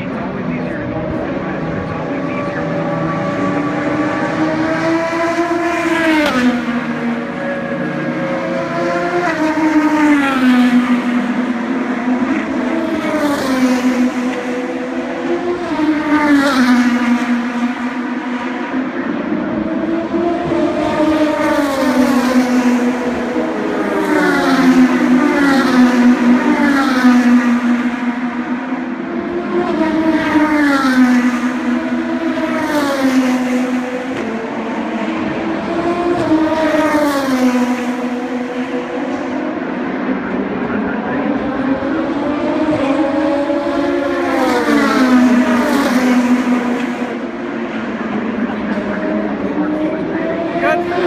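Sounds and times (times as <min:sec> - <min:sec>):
race cars passing: 0:00.0 - 0:51.0.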